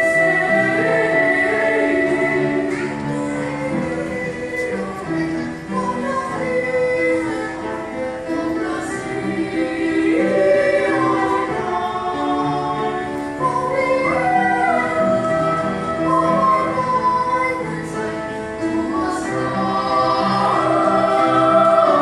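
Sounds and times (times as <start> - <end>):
children's choir singing in harmony: 0.0 - 22.0.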